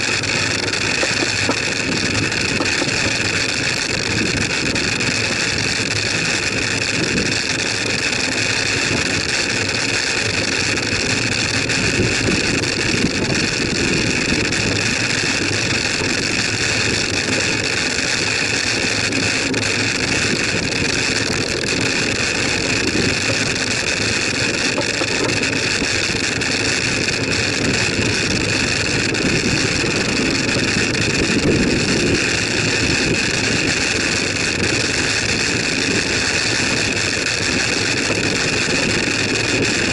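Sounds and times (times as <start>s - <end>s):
bicycle tyres on tarmac: 0.0s - 39.9s
wind rushing over microphone: 0.0s - 39.9s.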